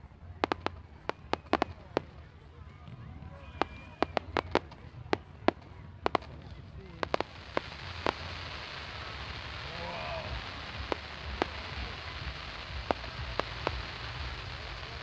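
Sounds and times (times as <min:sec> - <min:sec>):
sharp firework pops: 0:00.0 - 0:02.2, 0:02.8 - 0:15.0
fireworks crackling: 0:00.0 - 0:15.0.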